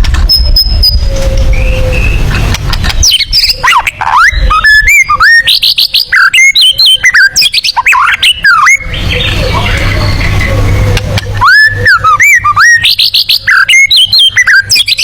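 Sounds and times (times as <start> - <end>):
songbird whistling varied notes: 0.3 - 2.3, 2.9 - 9.4, 11.4 - 15.0.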